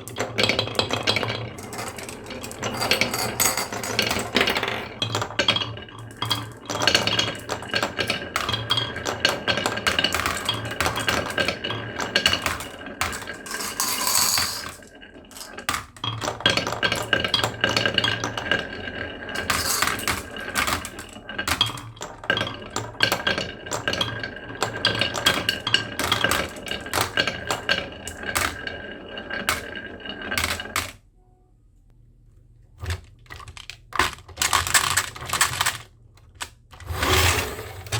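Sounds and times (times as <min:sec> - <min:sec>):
marbles rolling and clattering: 0:00.0 - 0:31.0, 0:32.8 - 0:37.9.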